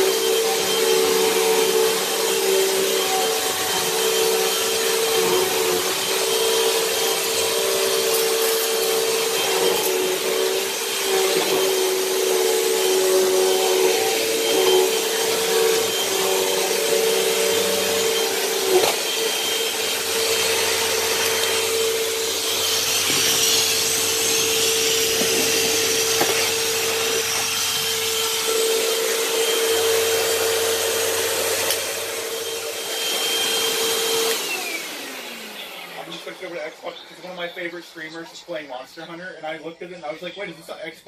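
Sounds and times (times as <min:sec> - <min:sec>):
vacuum cleaner motor whine: 0:00.0 - 0:38.7.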